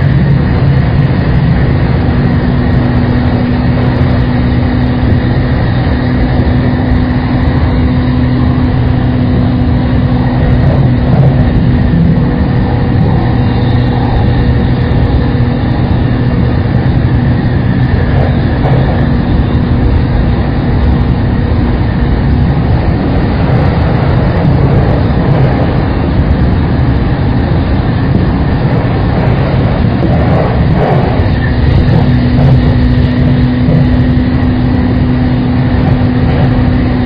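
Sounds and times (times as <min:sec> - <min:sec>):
train wheel and track rumble: 0:00.0 - 0:37.0.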